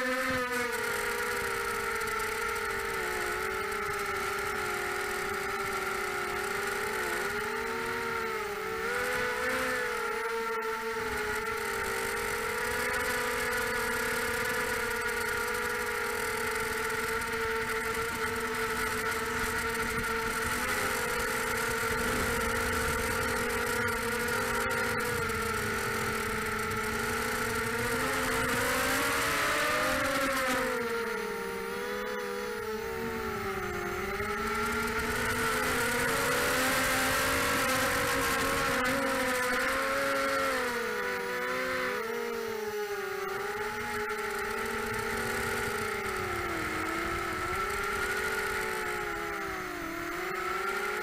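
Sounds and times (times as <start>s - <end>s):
quadcopter motors whining: 0.0s - 51.0s.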